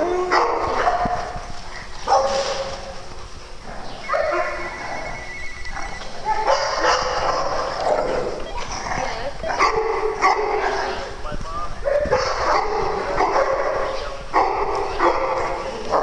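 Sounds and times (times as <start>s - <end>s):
dogs barking and yipping: 0.0s - 11.2s, 11.8s - 16.0s.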